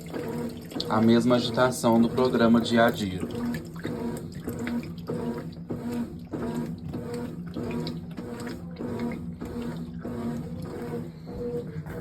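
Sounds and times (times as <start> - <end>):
washing machine motor hum: 0.0 - 12.0
water and clothes sloshing: 0.0 - 12.0.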